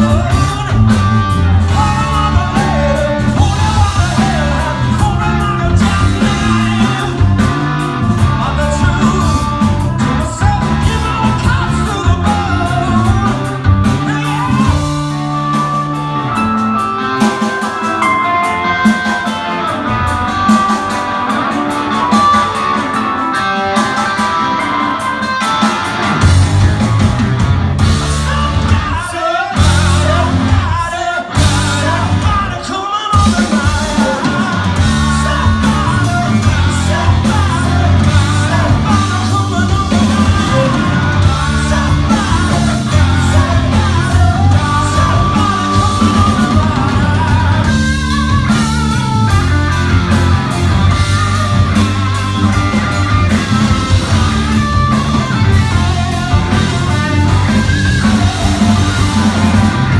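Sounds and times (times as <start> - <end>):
lead singer: 0.0 - 59.9
rock band playing live: 0.0 - 59.9.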